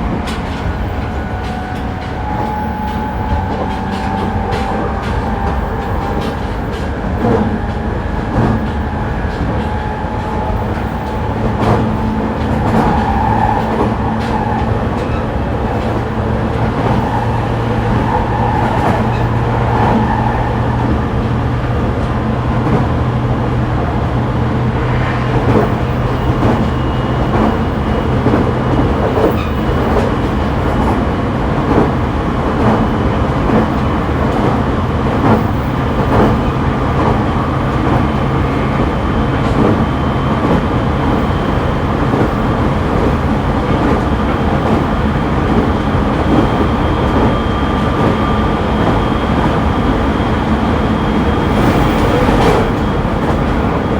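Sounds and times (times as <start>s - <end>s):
train running rumble: 0.0s - 53.9s
wheels clacking over rail joints: 0.0s - 53.9s.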